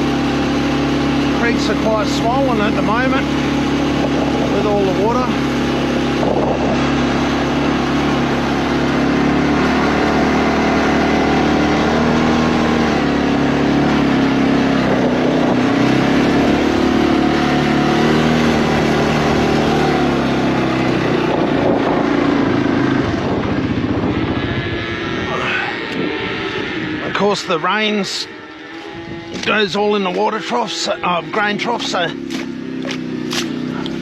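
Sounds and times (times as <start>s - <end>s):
small vehicle engine running: 0.0s - 34.0s.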